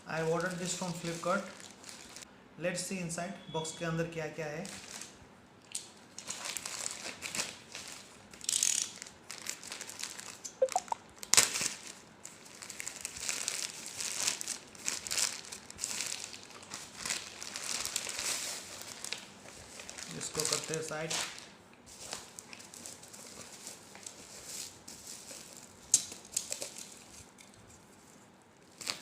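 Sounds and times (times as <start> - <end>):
packaging rustling and crinkling: 0.1 - 2.3, 4.6 - 5.2, 6.1 - 10.4, 11.2 - 29.0.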